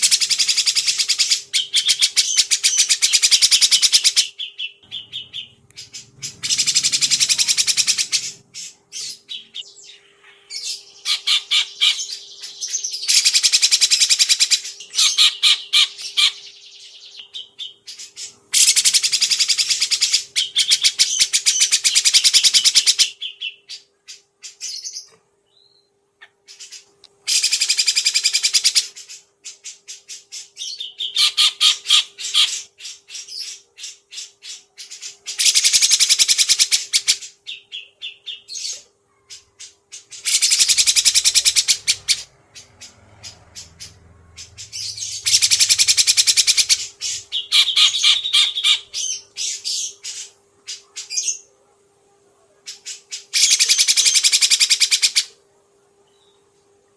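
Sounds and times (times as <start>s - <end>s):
songbird rattling song: 0.0s - 16.5s, 17.2s - 25.2s, 26.2s - 38.4s, 39.4s - 51.4s
faint steady hum: 0.0s - 56.9s.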